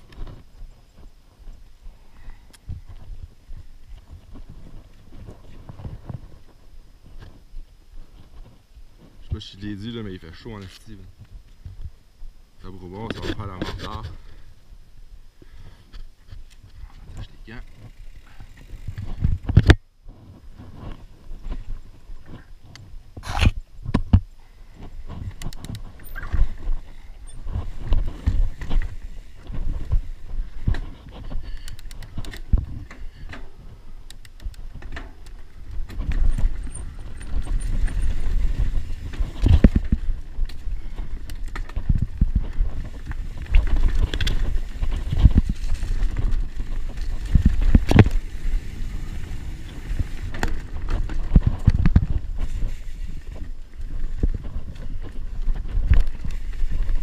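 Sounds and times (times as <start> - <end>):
bike knocking and rattling on rocks: 2.5 - 7.4, 16.2 - 57.0.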